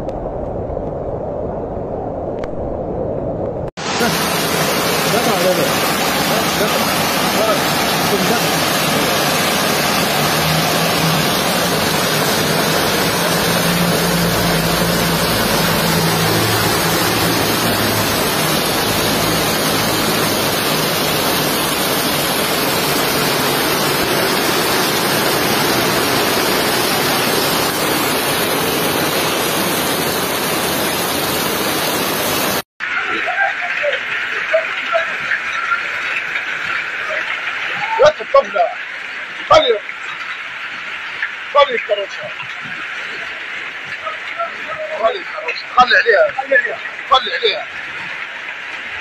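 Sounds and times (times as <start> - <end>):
heavy rain hissing: 3.8 - 49.0.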